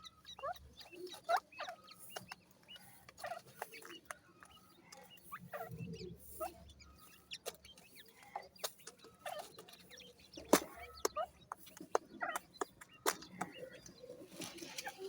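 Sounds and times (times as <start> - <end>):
partridge chicks peeping and chirping: 0.0 - 15.0.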